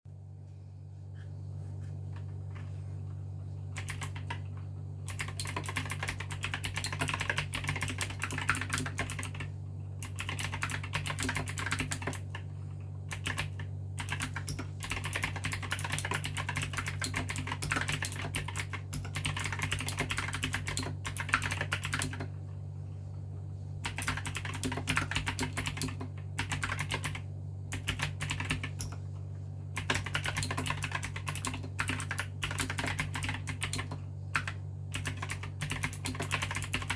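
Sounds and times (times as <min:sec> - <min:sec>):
steady low hum: 0:00.1 - 0:36.9
mechanical keyboard typing: 0:03.8 - 0:12.5, 0:13.1 - 0:22.3, 0:23.8 - 0:29.0, 0:29.8 - 0:36.9.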